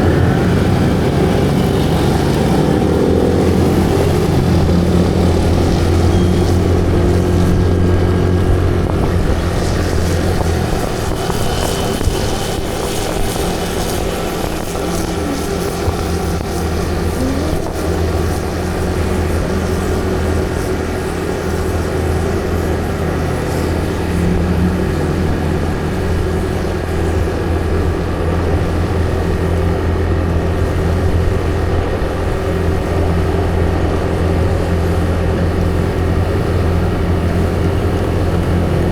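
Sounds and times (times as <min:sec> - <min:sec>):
road noise rushing: 0:00.0 - 0:38.9
vehicle engine humming: 0:00.0 - 0:38.9.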